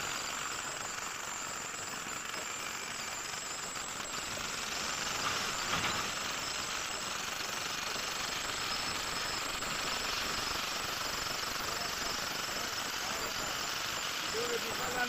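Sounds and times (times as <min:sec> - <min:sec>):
demolition hammer chiselling concrete: 0:00.0 - 0:15.0.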